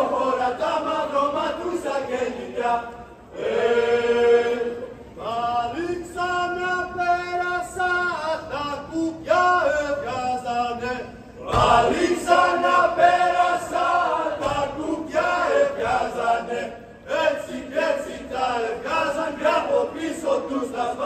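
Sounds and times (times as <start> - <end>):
men singing folk song together: 0.0 - 21.0.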